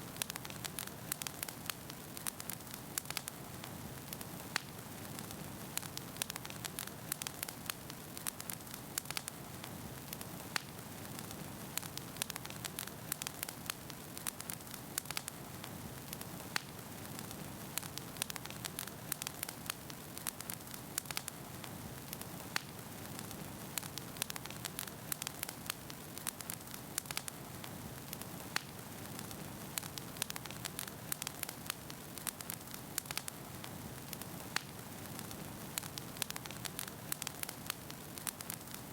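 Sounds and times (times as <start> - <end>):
fire rumbling and hissing: 0.0 - 38.9
logs popping and crackling: 0.1 - 38.9.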